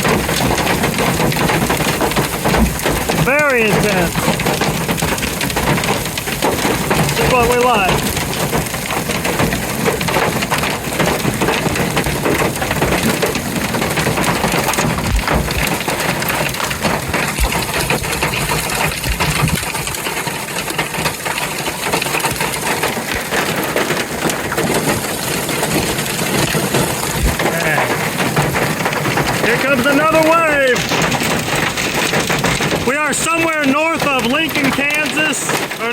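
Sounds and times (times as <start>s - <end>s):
hail and heavy rain: 0.0s - 35.9s.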